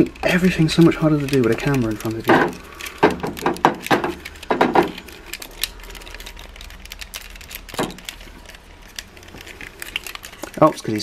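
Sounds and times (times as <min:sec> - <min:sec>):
plastic toy parts clicking: 0:00.0 - 0:11.0.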